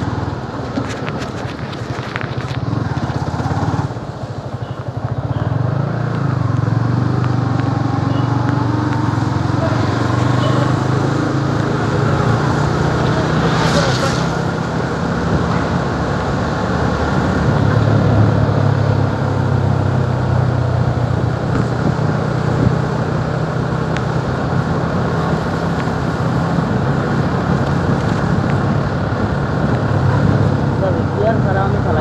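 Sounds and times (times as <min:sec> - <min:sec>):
road and wind noise: 0:00.0 - 0:32.0.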